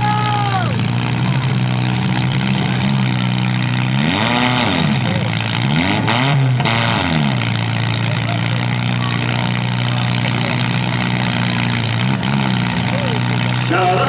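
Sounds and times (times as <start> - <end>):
car engine revving: 0.0 - 14.0
car engines running: 0.0 - 14.0.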